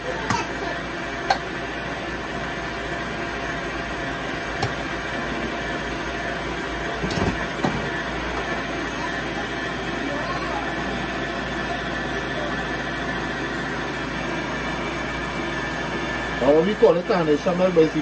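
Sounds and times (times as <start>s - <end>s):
stand mixer whisking liquid: 0.0s - 18.0s.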